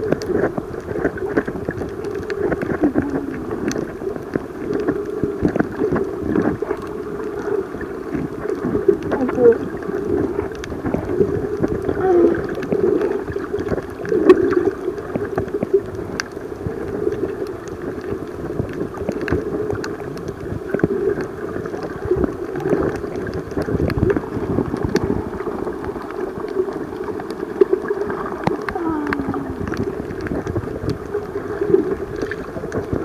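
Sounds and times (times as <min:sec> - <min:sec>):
muffled underwater sloshing: 0:00.0 - 0:33.0.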